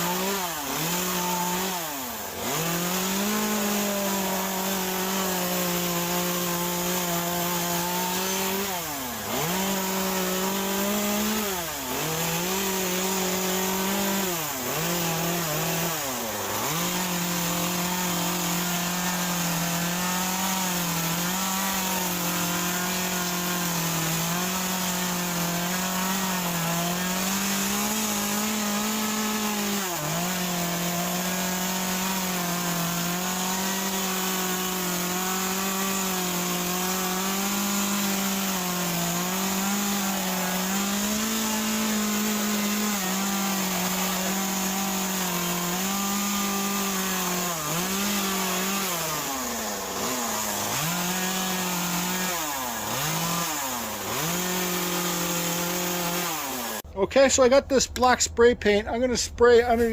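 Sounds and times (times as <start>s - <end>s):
chainsaw cutting wood: 0.0s - 58.1s.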